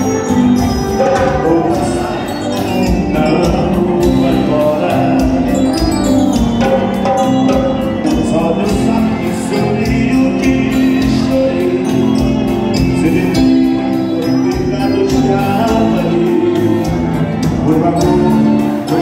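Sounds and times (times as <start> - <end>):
live dance band playing: 0.0 - 19.0
person singing: 0.0 - 19.0.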